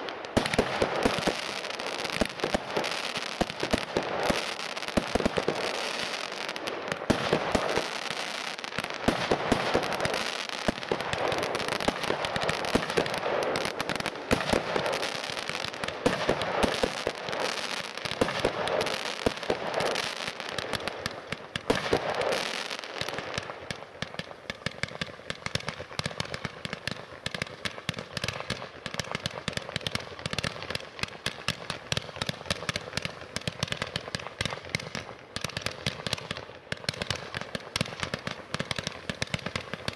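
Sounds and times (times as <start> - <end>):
firework launches and aerial bursts: 0.0 - 39.9
firework sharp pops: 0.0 - 39.9.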